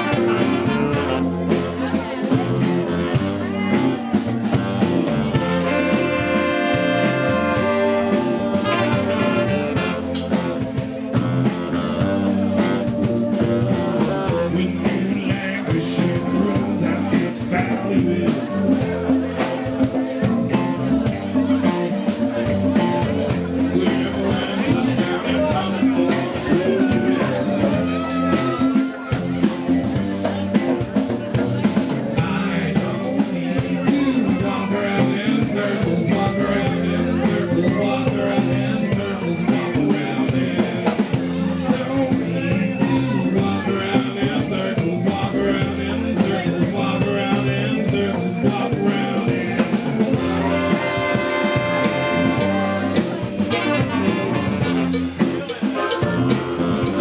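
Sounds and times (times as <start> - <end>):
live rock band playing: 0.0 - 57.0
repeating bass groove: 0.0 - 57.0.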